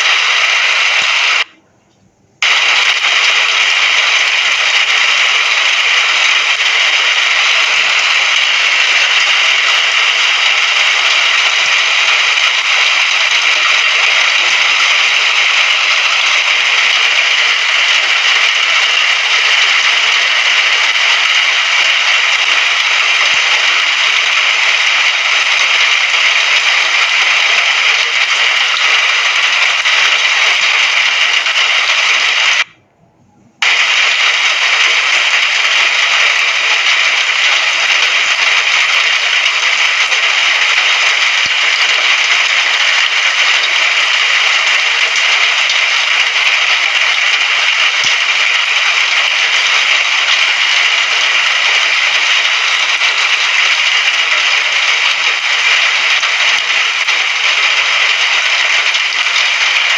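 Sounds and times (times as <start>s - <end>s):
hiss of falling rain: 0.0s - 1.5s, 2.4s - 32.7s, 33.6s - 59.9s.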